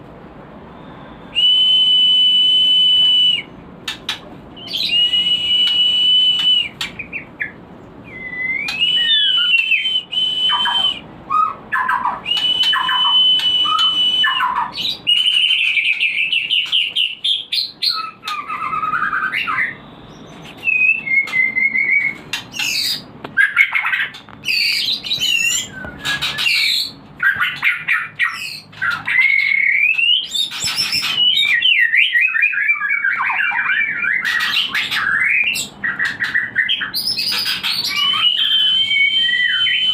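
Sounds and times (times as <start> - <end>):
bird singing whistled phrases: 0.8 - 3.5, 4.6 - 27.5, 28.2 - 39.9.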